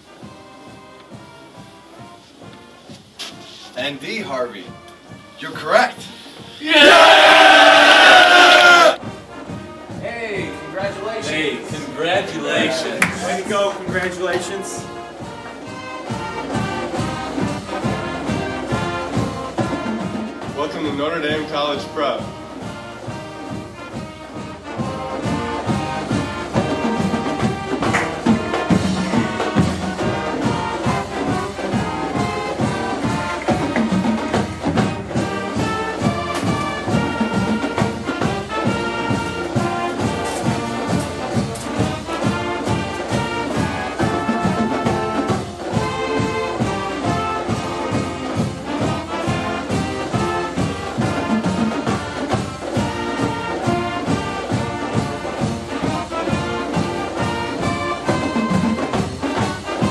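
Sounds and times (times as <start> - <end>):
brass background music with beat: 0.0 - 59.9.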